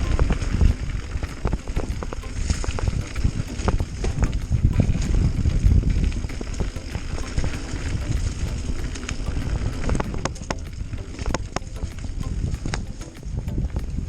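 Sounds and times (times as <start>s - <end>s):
bicycle tyres rumbling on dirt: 0.0s - 14.0s
bike rattling over bumps: 0.0s - 14.0s
wind on microphone: 0.0s - 14.0s.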